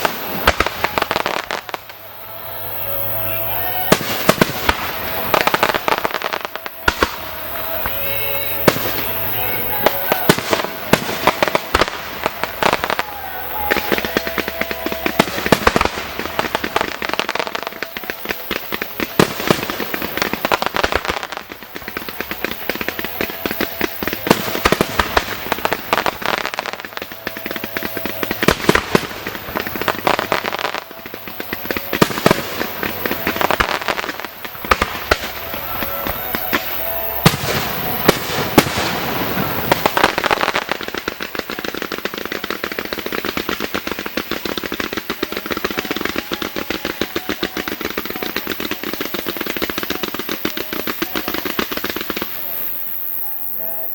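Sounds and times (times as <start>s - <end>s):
fireworks bursting and crackling: 0.0s - 53.9s.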